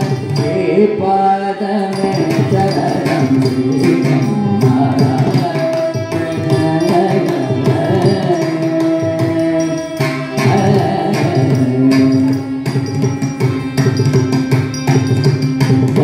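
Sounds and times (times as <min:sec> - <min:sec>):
hand drum beats: 0:01.8 - 0:16.0.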